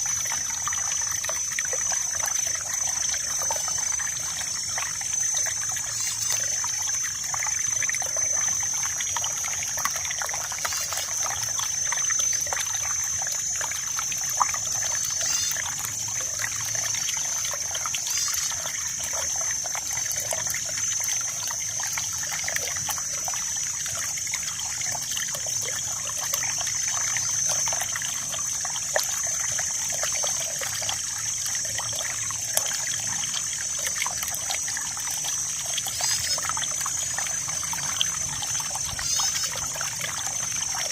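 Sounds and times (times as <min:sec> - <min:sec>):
water flowing and trickling: 0:00.0 - 0:40.9.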